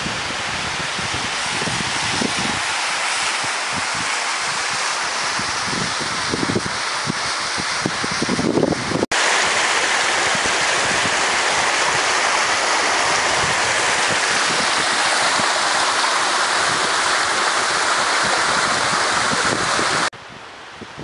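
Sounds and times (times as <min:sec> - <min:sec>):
stream water rushing: 0:00.0 - 0:20.1.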